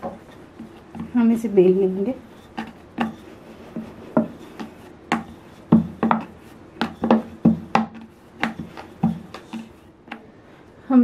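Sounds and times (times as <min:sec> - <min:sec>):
rolling pin knocking on wooden board: 0:00.0 - 0:01.2, 0:02.4 - 0:10.3.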